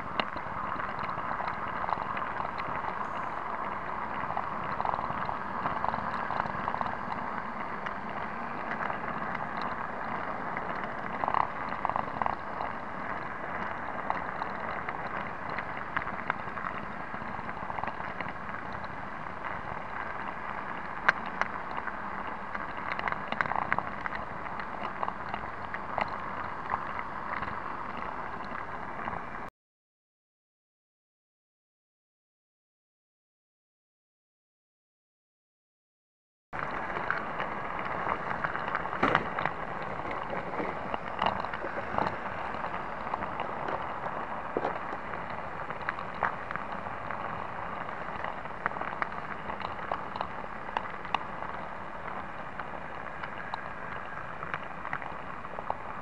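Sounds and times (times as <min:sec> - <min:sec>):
sharp clicks and ticks: 0:00.0 - 0:29.2, 0:36.6 - 0:56.0.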